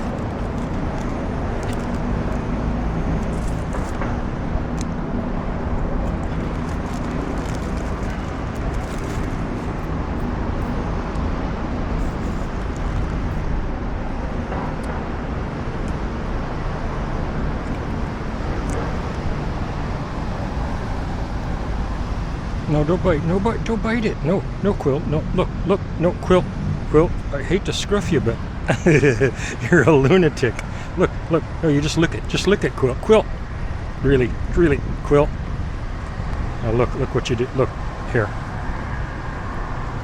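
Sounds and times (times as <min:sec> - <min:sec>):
faint engine hum: 0:00.0 - 0:40.0
road traffic rumble: 0:00.0 - 0:40.0.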